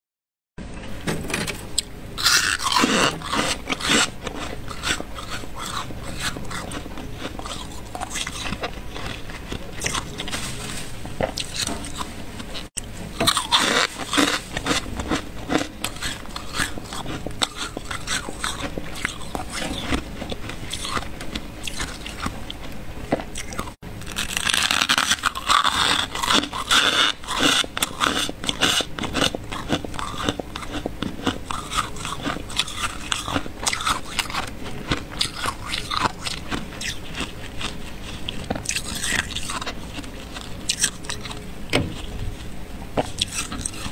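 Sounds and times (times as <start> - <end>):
freezer frost crunching and squeaking: 1.8 - 43.9.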